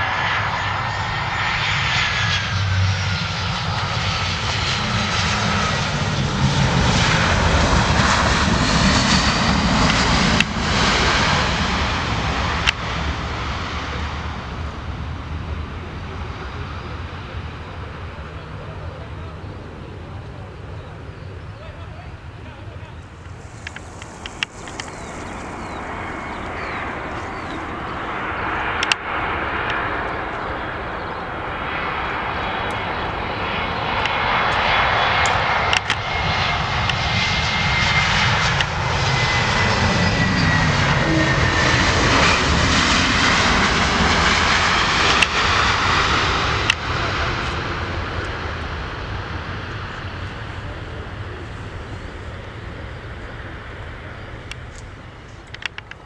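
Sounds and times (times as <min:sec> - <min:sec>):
jet airliner passing by: 0:00.0 - 0:56.0.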